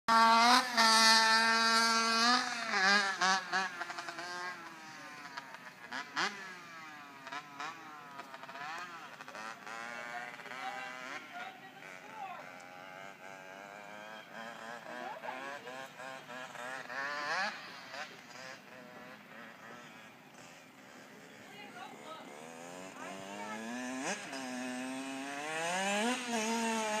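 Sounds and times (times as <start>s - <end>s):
dirt bike engine revving: 0.1s - 27.0s.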